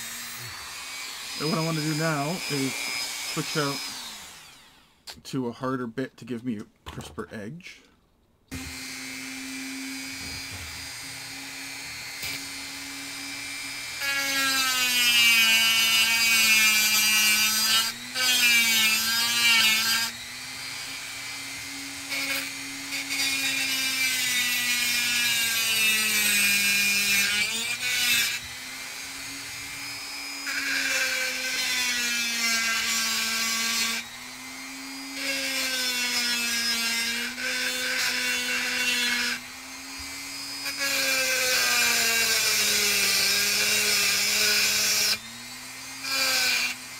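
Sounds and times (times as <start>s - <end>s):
rotary tool grinding metal: 0.0s - 5.0s, 8.5s - 46.9s.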